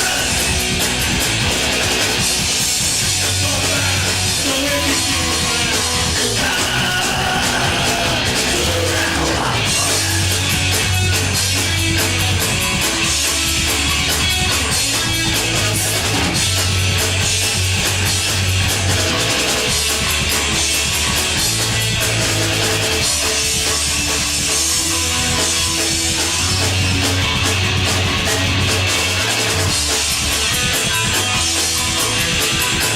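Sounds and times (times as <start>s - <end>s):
bass guitar: 0.0s - 32.9s
distorted electric guitars: 0.0s - 32.9s
drum kit: 0.0s - 32.9s.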